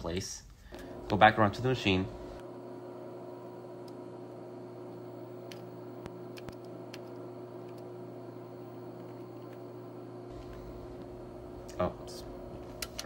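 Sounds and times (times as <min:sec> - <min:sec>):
machine low hum: 0:00.6 - 0:13.0.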